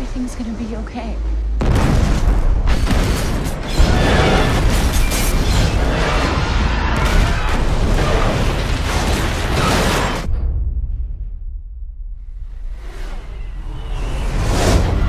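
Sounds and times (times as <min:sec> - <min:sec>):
loud explosion and fire blast: 0:01.6 - 0:15.0.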